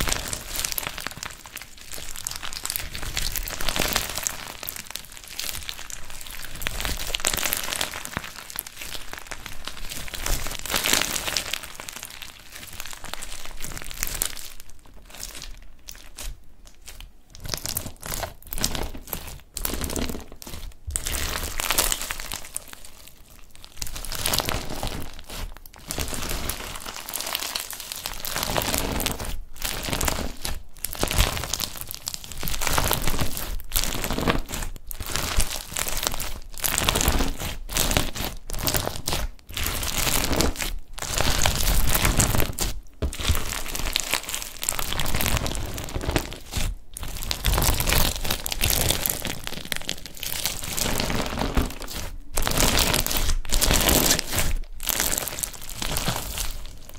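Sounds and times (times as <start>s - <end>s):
slime crackling and crinkling: 0.0s - 56.9s.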